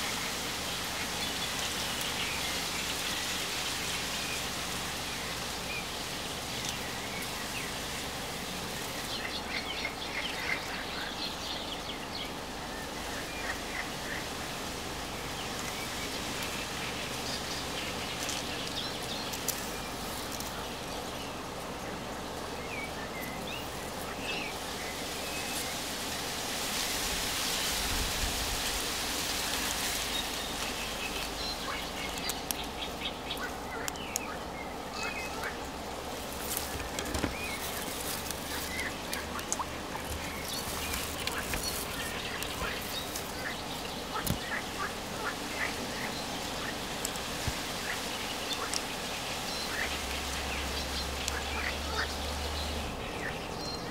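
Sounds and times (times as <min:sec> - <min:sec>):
steady outdoor hiss: 0:00.0 - 0:53.9.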